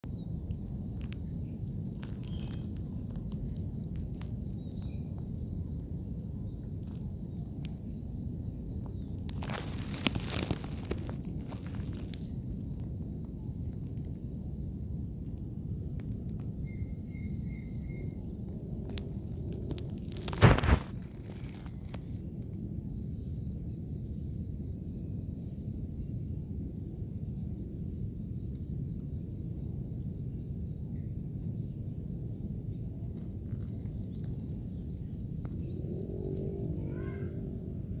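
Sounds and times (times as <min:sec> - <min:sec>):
cricket chirping in trills: 0:00.0 - 0:38.0
high insect hum: 0:00.0 - 0:38.0.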